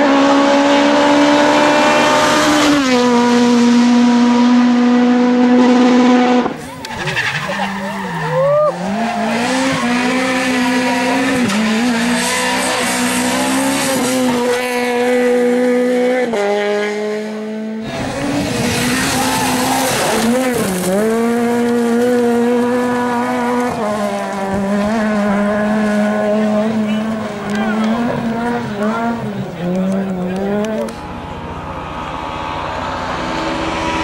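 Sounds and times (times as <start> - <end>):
rally car engine at high revs: 0.0 - 34.0
rally car revving on gravel: 0.0 - 34.0.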